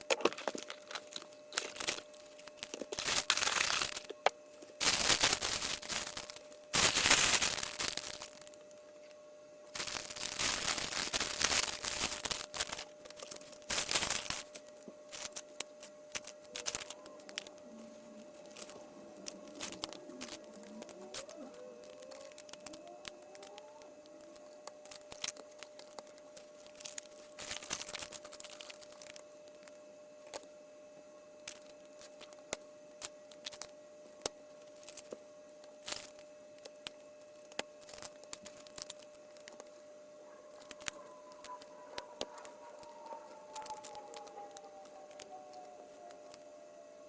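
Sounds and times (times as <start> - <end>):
plastic bags tearing and crinkling: 0.0 - 8.8, 9.7 - 30.4, 31.4 - 32.4, 33.0 - 35.2, 35.8 - 46.4
faint hum: 0.0 - 47.0.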